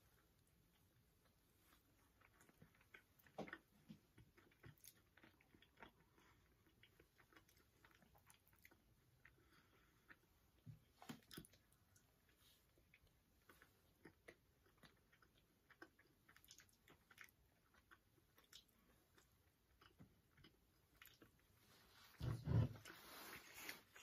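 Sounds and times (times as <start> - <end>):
chewing cookie crunches: 0.3 - 21.8.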